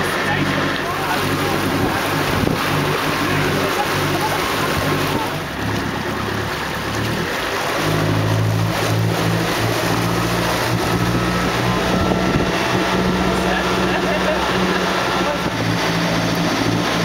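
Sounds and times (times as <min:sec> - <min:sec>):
boat engine humming: 0:00.0 - 0:17.0
water rushing past hull: 0:00.0 - 0:17.0
wind: 0:00.0 - 0:17.0.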